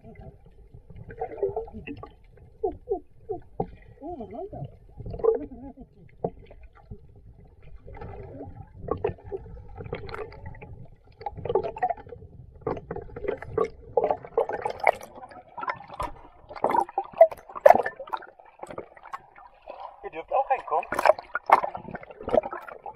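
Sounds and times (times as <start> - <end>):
muffled underwater gurgling: 0.0 - 22.9
water splashes: 0.0 - 22.9.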